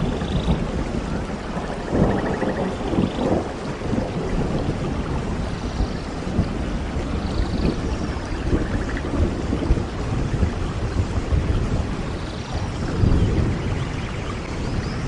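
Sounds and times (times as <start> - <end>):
heavy rain: 0.0 - 15.0
low rumbling thunder: 0.0 - 15.0.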